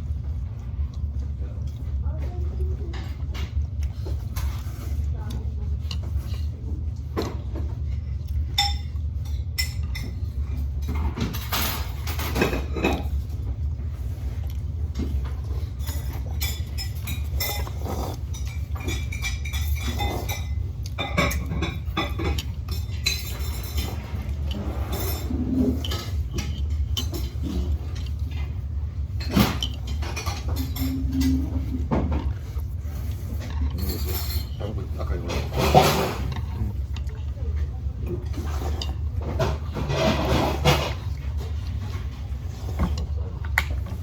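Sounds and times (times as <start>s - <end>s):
utensils clinking against dishes: 0.3s - 44.0s.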